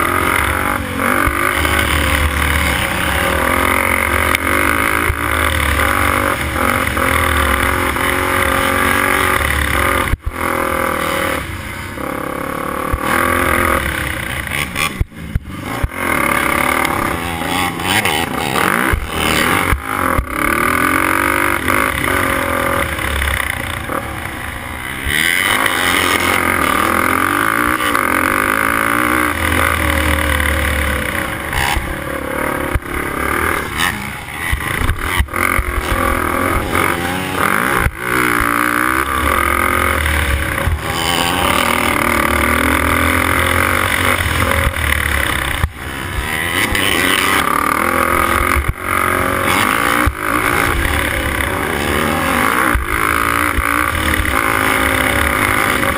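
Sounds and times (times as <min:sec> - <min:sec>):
quad engine revving: 0:00.0 - 0:55.9.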